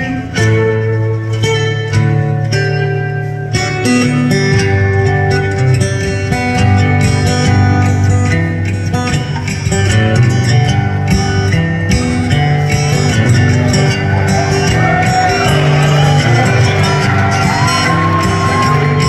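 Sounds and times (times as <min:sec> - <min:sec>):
amplified acoustic guitar: 0:00.0 - 0:19.0.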